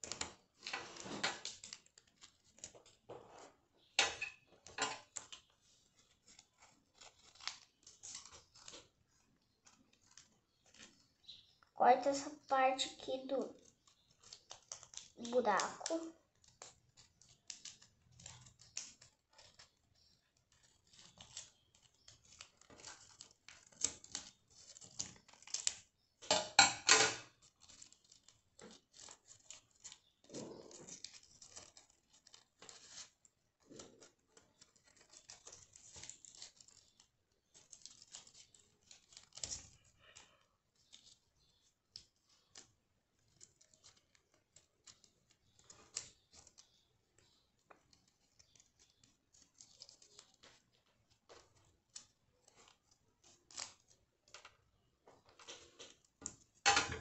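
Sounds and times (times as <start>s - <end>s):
scissors snipping paper: 0.0s - 3.1s, 3.8s - 54.6s
paper crinkling: 0.0s - 56.7s.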